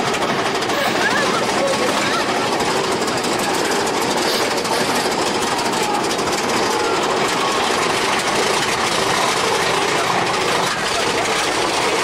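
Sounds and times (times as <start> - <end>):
roller coaster clattering on track: 0.0 - 12.0.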